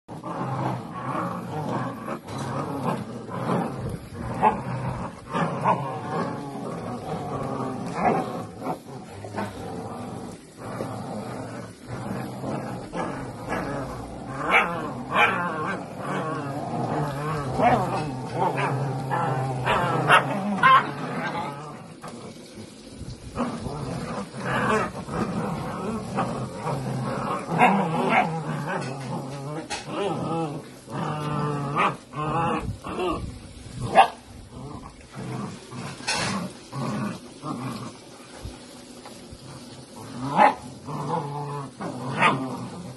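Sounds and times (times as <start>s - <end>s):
puppies growling: 0.1s - 42.9s.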